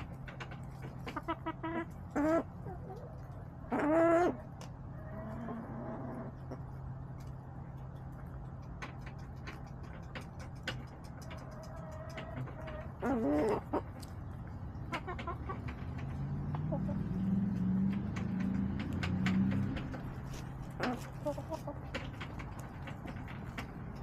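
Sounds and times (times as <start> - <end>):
hens clucking: 0.0 - 24.0
steady low hum: 0.0 - 24.0.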